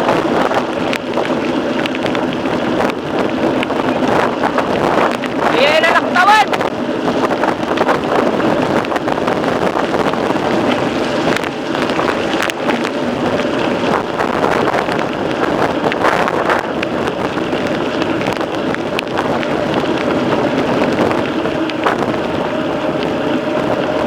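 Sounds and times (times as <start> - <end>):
bike rattling and clicking: 0.0 - 24.0
bike tyre noise: 0.0 - 24.0
wind rush on microphone: 0.0 - 24.0.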